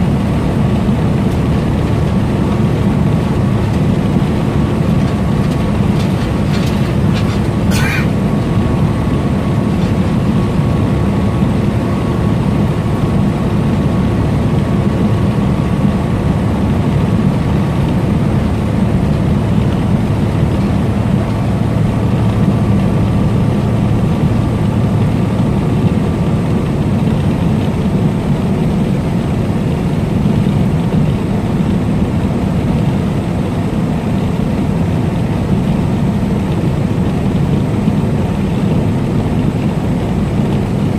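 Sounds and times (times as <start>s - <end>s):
truck engine and road drone: 0.0s - 40.9s.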